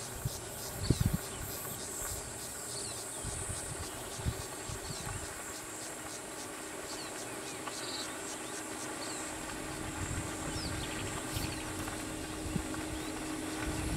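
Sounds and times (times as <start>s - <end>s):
faint steady hum: 0.0s - 13.9s.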